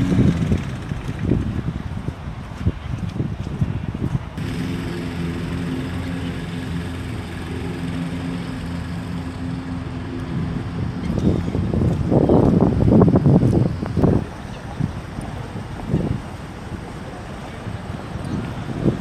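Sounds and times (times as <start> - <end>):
low motor hum: 0.0 - 2.3, 3.4 - 19.0
wind buffeting microphone: 0.0 - 19.0.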